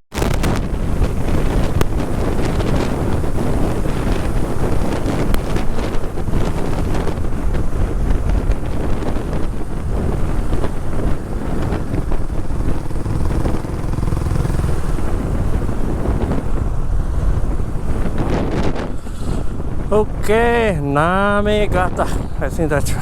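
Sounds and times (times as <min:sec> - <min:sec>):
vehicle noise: 0:00.1 - 0:23.0
wind buffeting microphone: 0:00.1 - 0:23.0.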